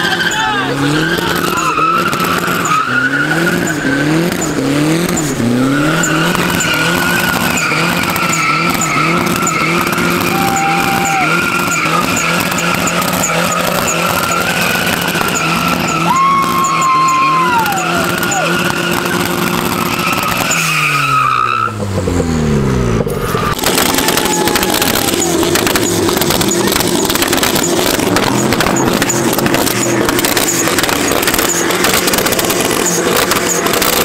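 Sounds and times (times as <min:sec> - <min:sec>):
tyres screeching: 0:00.0 - 0:21.8, 0:23.1 - 0:34.0
car engine revving hard: 0:00.0 - 0:34.0.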